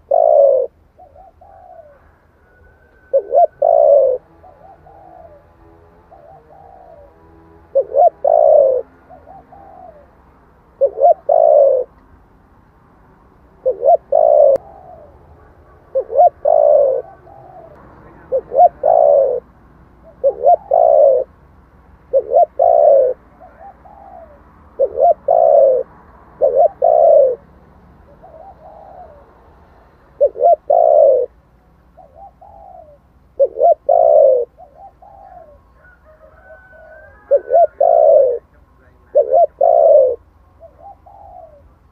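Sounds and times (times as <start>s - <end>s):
dove cooing: 0.0s - 12.0s, 13.6s - 21.4s, 22.0s - 41.9s.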